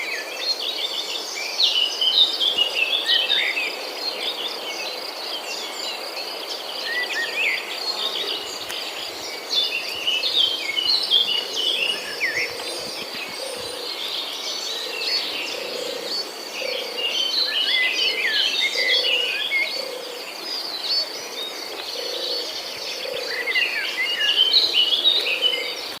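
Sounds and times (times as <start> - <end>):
birds chirping and twittering: 0.0 - 26.0
high insect drone: 0.0 - 26.0.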